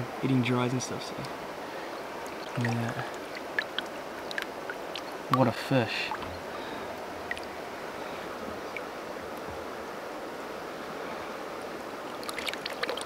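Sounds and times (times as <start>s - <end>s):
water rushing over stones: 0.2s - 9.8s, 11.7s - 13.0s.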